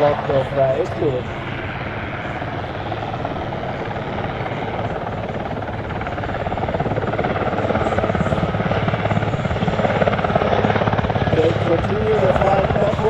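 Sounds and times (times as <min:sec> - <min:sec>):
helicopter rotor beat: 0:00.0 - 0:13.0
helicopter turbine noise: 0:00.0 - 0:13.0.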